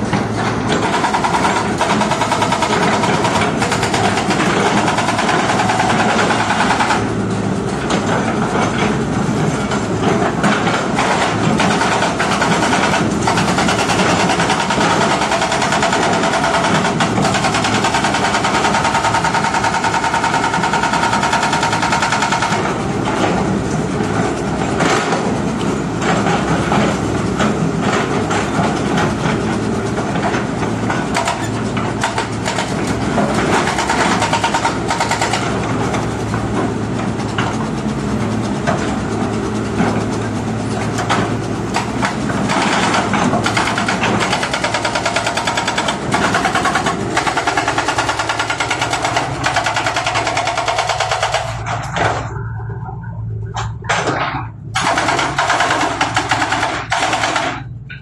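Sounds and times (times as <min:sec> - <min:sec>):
hydraulic breaker hammering rock: 0:00.0 - 0:09.0, 0:09.6 - 0:23.6, 0:30.0 - 0:37.7, 0:39.8 - 0:52.2, 0:53.9 - 0:57.7
diesel engine running: 0:00.0 - 0:58.0.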